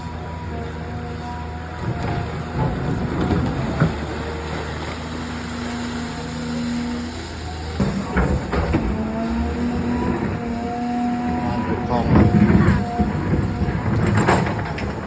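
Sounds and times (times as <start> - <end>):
diesel engine running: 0.0 - 15.0
hydraulic whine: 0.0 - 15.0.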